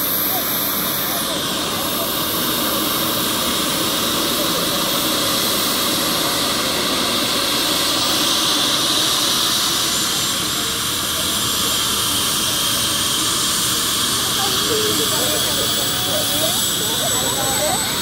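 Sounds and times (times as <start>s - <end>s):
helicopter rotor rushing: 0.0s - 18.0s
helicopter turbine whine: 0.0s - 18.0s.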